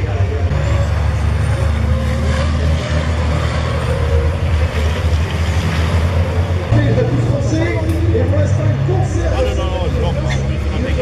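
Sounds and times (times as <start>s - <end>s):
diesel truck engines passing: 0.0s - 11.0s.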